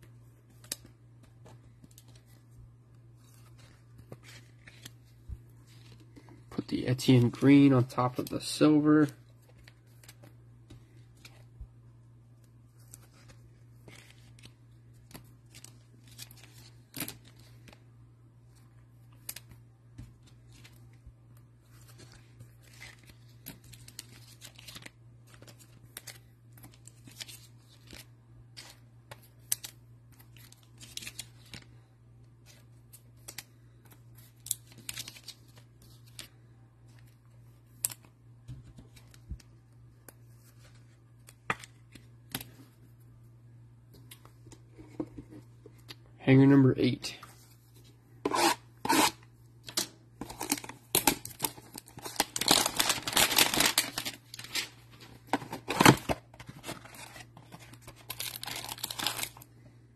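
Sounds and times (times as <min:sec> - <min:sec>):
cards and plastic rustling: 0:00.0 - 0:11.7, 0:12.4 - 0:46.1, 0:46.8 - 0:59.8.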